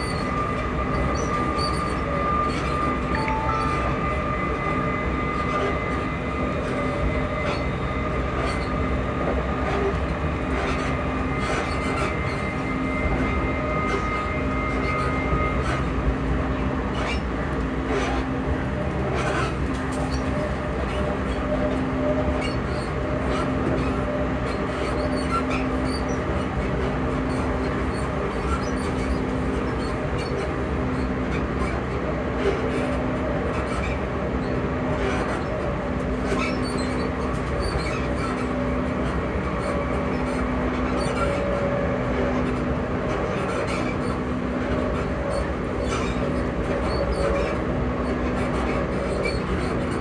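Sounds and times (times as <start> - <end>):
traction motors whining: 0.0 - 50.0
train rumble: 0.0 - 50.0.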